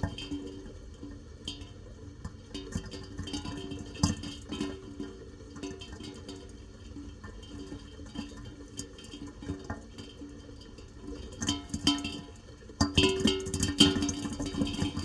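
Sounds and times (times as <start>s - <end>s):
rain drops on hard surfaces: 0.0s - 15.0s.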